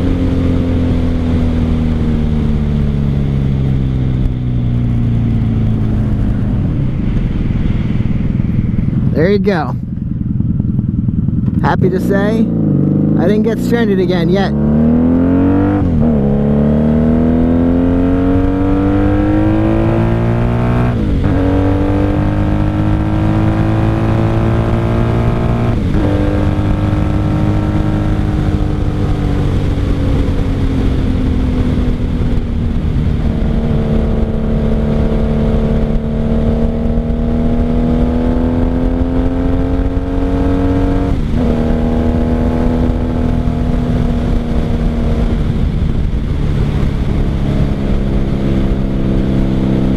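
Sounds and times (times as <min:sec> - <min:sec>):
motorcycle engine shifting gears: 0:00.0 - 0:49.9.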